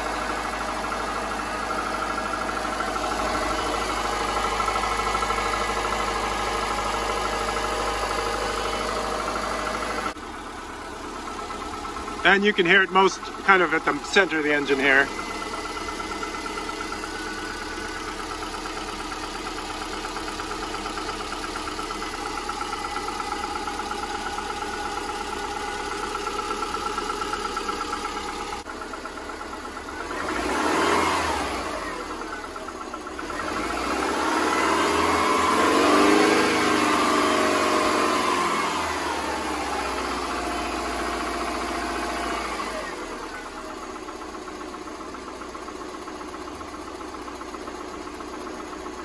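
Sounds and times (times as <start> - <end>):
car engine idling with knocking: 0.0 - 49.0.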